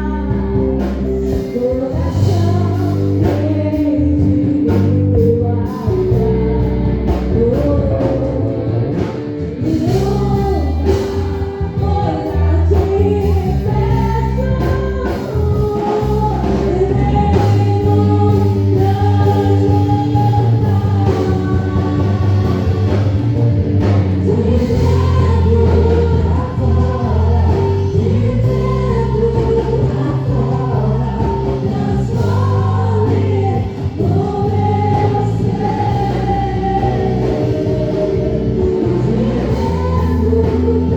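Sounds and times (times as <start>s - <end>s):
gospel song with singing voices: 0.0s - 40.9s.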